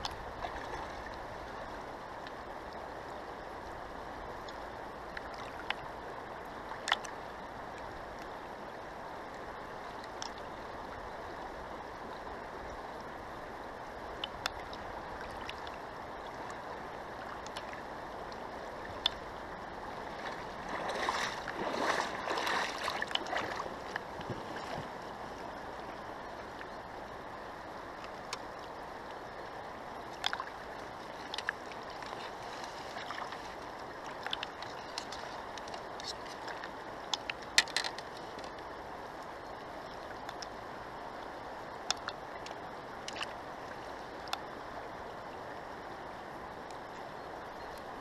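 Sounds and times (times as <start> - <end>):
river rushing: 0.0 - 48.0.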